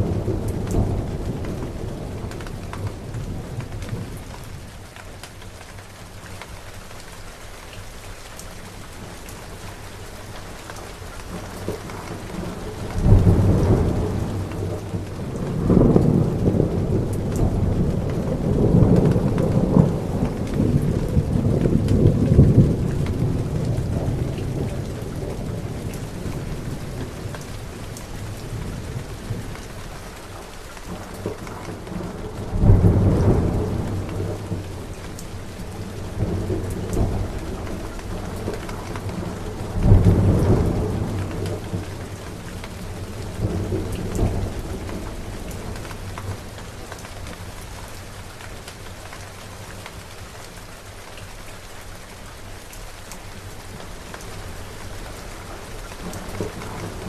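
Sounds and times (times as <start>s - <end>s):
thunder claps and rumbles: 0.0s - 5.8s, 8.4s - 50.6s, 52.6s - 57.0s
steady rain falling: 0.0s - 57.0s.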